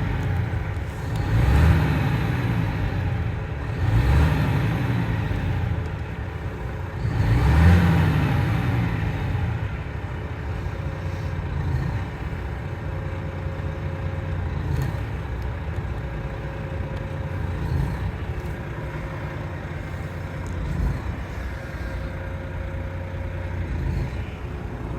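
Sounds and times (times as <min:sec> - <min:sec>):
truck diesel engine rumbling: 0:00.0 - 0:24.9.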